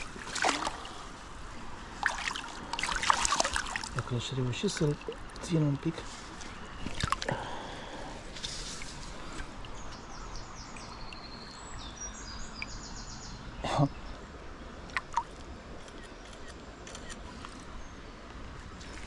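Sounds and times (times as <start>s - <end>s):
forest stream rushing: 0.0s - 15.8s.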